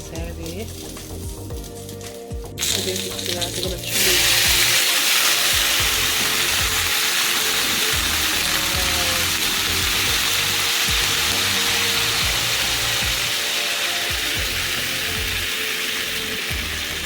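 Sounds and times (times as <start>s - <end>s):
background music: 0.0s - 17.0s
food sizzling in a pan: 0.0s - 17.0s.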